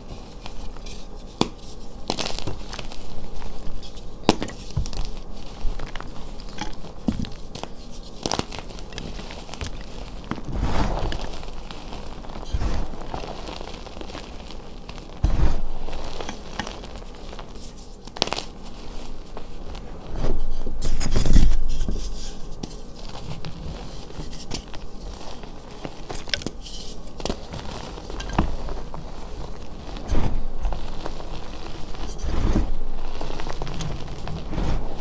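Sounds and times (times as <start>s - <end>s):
hands crunching chalk: 0.1s - 35.0s.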